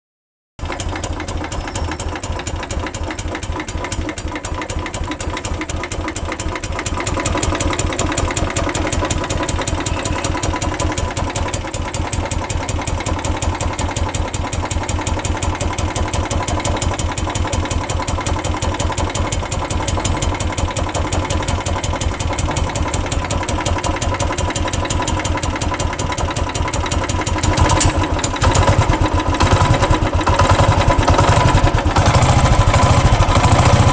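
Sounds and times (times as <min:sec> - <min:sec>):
motorcycle engine idling: 0:00.6 - 0:33.9.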